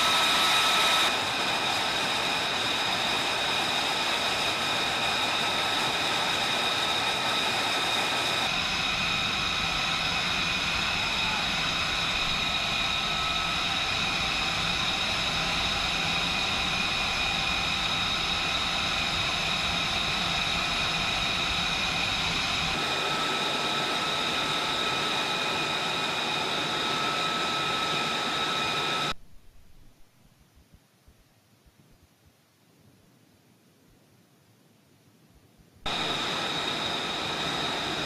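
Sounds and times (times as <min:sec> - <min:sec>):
jet turbine whine: 0:00.0 - 0:29.2, 0:35.9 - 0:38.0.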